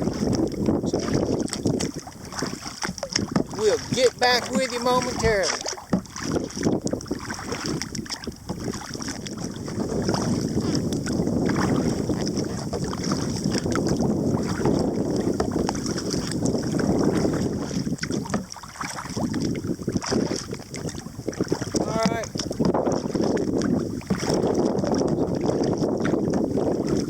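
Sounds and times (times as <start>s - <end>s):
paddle splashing in water: 0.0s - 27.0s
wind noise on microphone: 0.0s - 27.0s.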